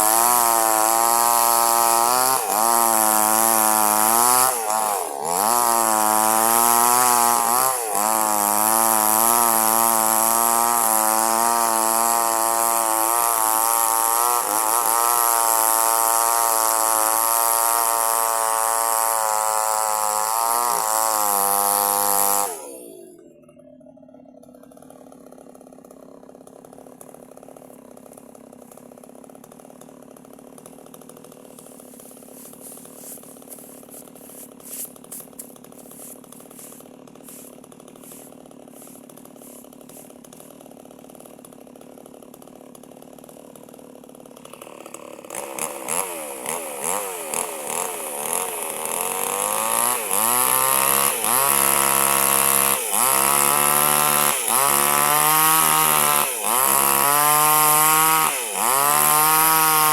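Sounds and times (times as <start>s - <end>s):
chainsaw engine idling and revving: 0.0s - 59.9s.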